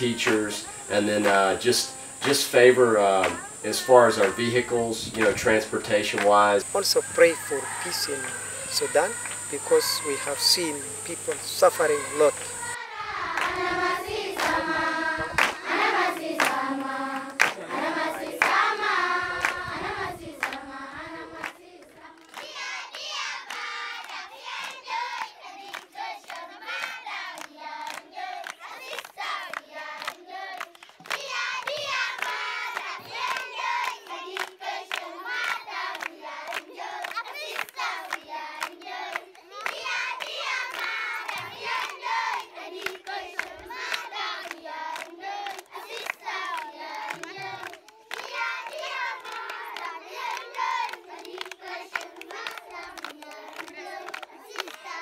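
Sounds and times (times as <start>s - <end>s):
hands clapping in time: 0.0s - 7.4s, 8.0s - 12.8s, 14.4s - 14.6s, 15.3s - 15.6s, 16.4s - 17.8s, 19.4s - 19.6s, 23.5s - 55.0s
children singing together: 0.0s - 55.0s.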